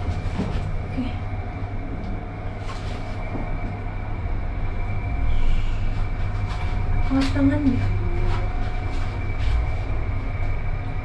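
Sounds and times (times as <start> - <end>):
elevator low rumble: 0.0 - 11.0
faint high whine: 0.0 - 11.0.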